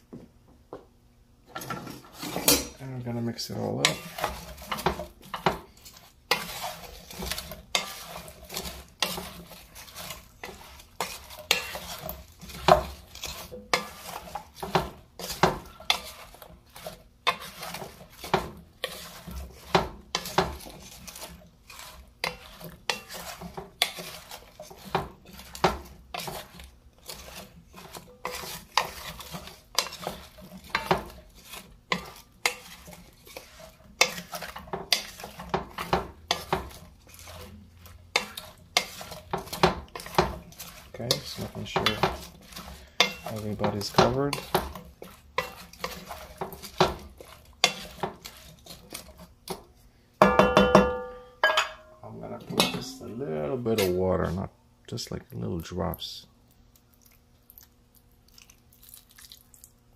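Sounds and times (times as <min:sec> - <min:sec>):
spoon scraping and knocking pot: 0:01.5 - 0:02.8, 0:03.5 - 0:54.4.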